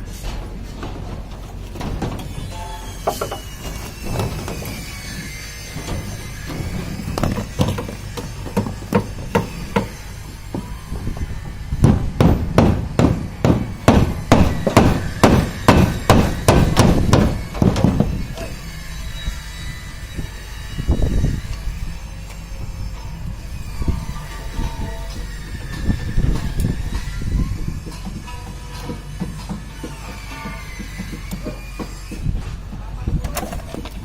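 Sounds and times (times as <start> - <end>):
hammer blows: 0.0 - 21.5, 22.6 - 32.8.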